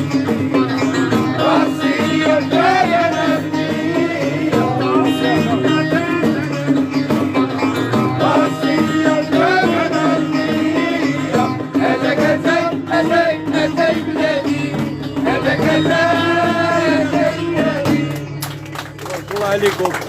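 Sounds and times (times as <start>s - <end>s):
plucked string accompaniment: 0.0s - 20.0s.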